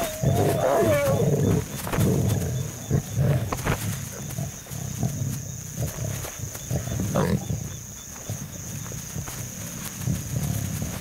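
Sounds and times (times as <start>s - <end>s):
lions growling: 0.0s - 11.0s.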